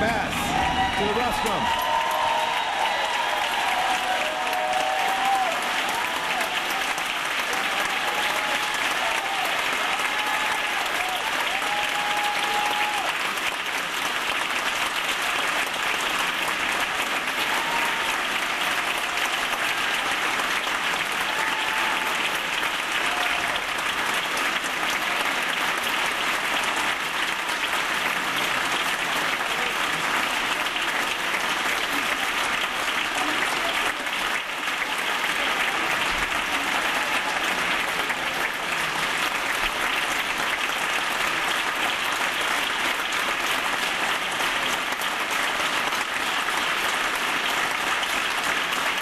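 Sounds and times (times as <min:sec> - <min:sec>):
audience applauding: 0:00.0 - 0:49.0
cheers: 0:00.0 - 0:49.0.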